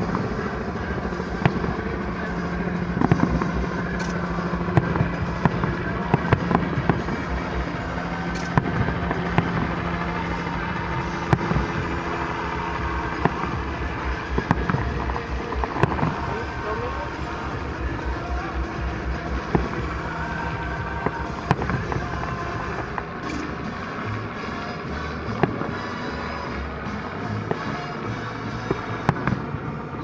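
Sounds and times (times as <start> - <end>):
fireworks bangs and crackles: 0.0 - 30.0
steady low hum: 0.0 - 30.0.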